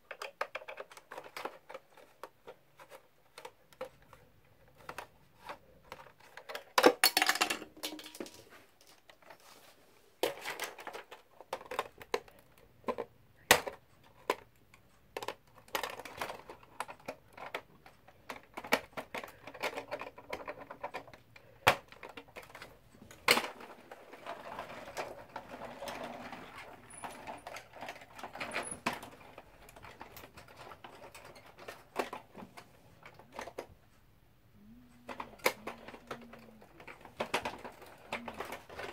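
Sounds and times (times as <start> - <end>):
plastic toy clicks and rattles: 0.1 - 9.4, 10.2 - 33.8, 35.0 - 38.9.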